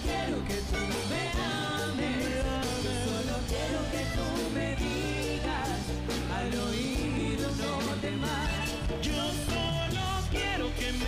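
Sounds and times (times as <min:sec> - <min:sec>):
accordion melody: 0:00.0 - 0:11.0
bass line: 0:00.0 - 0:11.0
percussion: 0:00.0 - 0:11.0.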